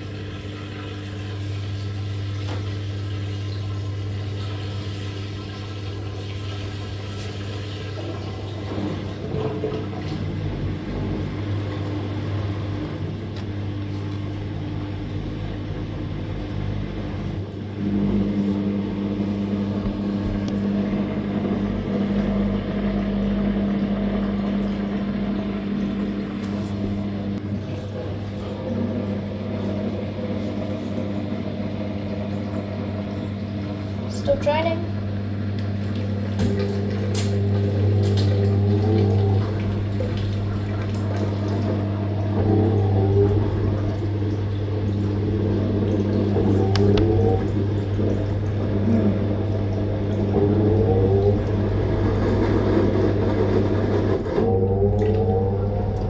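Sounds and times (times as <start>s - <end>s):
washing machine drain pump humming: 0.0s - 56.0s.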